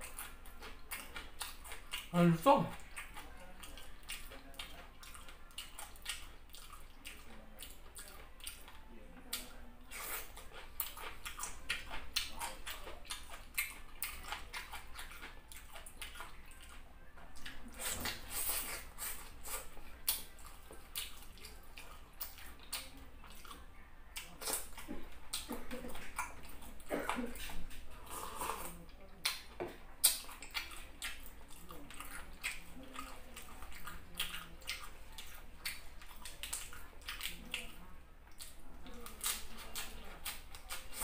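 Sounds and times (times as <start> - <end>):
wet chewing and lip-smacking: 0.0 - 41.0.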